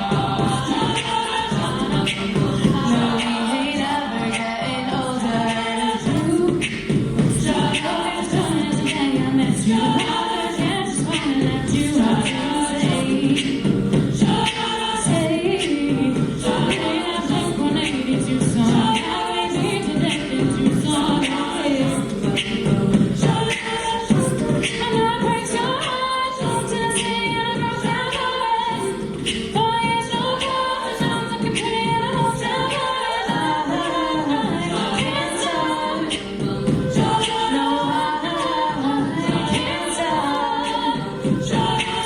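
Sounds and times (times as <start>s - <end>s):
a cappella group singing: 0.0s - 42.0s.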